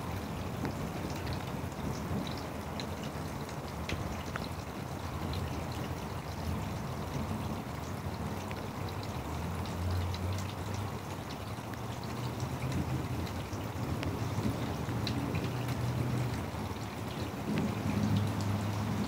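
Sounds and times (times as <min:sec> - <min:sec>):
steady rain falling: 0:00.0 - 0:19.0
water drips tapping: 0:00.6 - 0:19.0.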